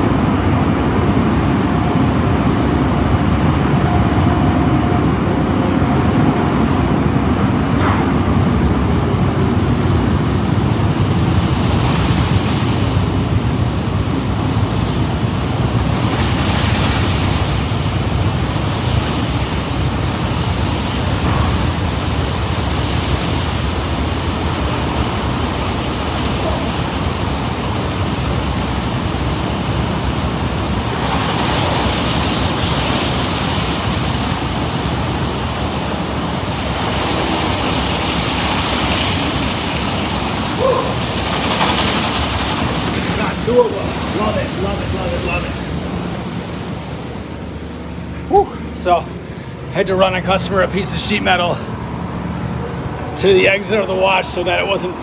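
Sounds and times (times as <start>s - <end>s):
dryer blowers rushing air: 0.0s - 55.0s.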